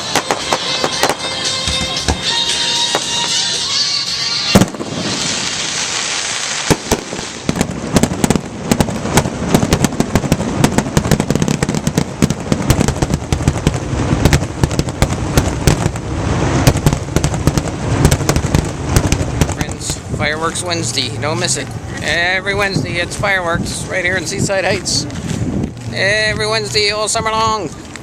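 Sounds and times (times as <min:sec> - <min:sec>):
fireworks bangs and crackles: 0:00.0 - 0:28.0
low rumble: 0:04.5 - 0:28.0.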